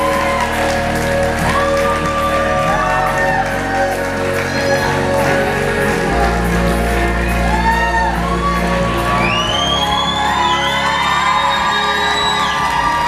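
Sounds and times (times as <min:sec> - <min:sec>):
audience shouting and whooping: 0:00.0 - 0:05.5, 0:06.9 - 0:13.0.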